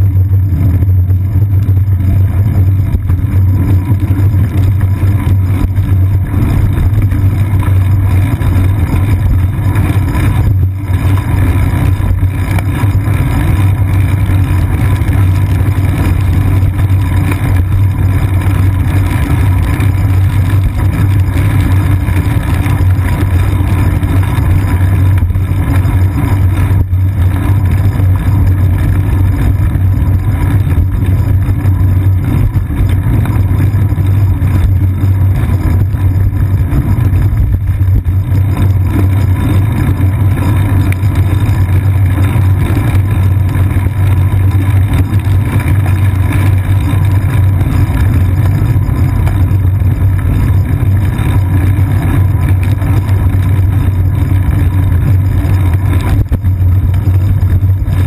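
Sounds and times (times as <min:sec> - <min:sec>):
road vibration: 0:00.0 - 0:58.0
wind rumble: 0:00.0 - 0:58.0.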